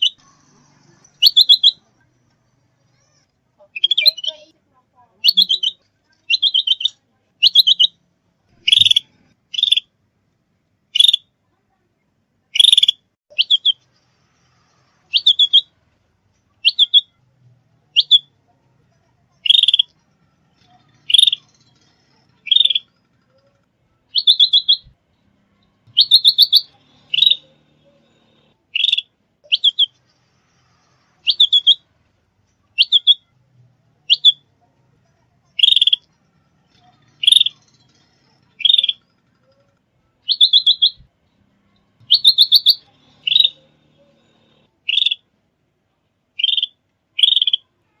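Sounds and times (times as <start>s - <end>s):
songbird chirping: 0.0s - 2.2s, 2.9s - 4.6s, 5.2s - 10.0s, 10.9s - 11.3s, 12.5s - 14.0s, 14.7s - 15.8s, 16.4s - 32.0s, 32.6s - 34.8s, 35.5s - 45.3s, 46.3s - 47.8s.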